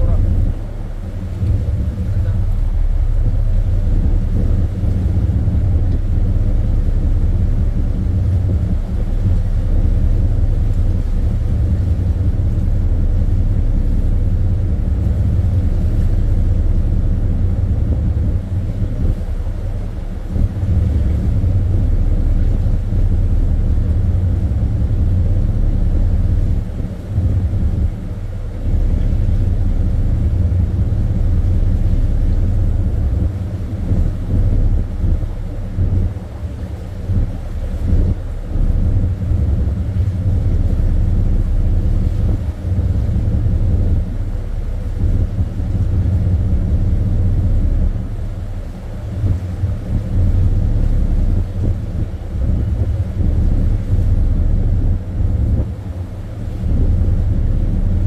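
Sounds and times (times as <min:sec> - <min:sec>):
ship machinery rumbling: 0:00.0 - 0:58.0.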